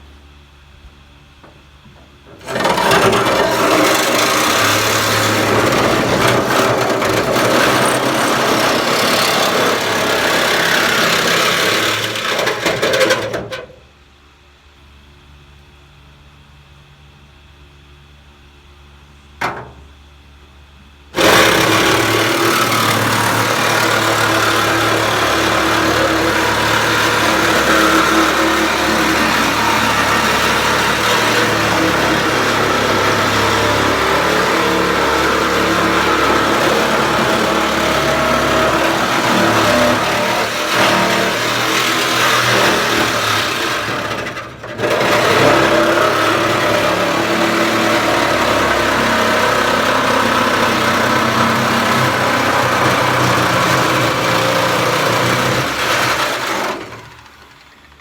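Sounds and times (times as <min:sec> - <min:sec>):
power tool cutting sheet metal: 0:02.3 - 0:13.6, 0:21.2 - 0:57.6.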